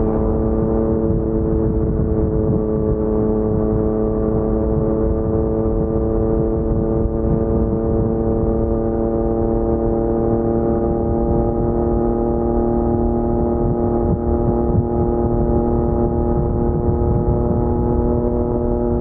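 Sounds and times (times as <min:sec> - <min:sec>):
motorcycle engine steady revs: 0:00.0 - 0:19.0.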